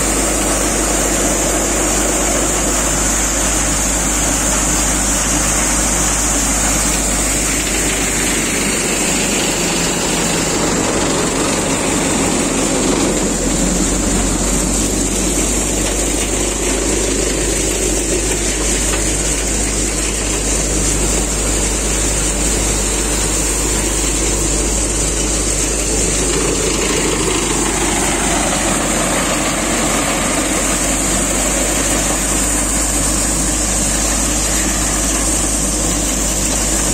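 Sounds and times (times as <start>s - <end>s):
threshing machine drone: 0.0s - 36.9s.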